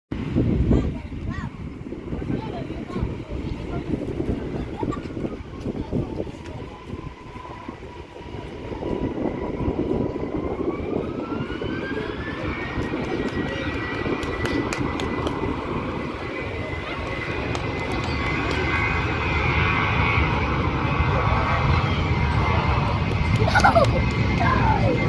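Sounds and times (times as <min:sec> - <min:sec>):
jet engines spooling up: 0:00.2 - 0:25.0.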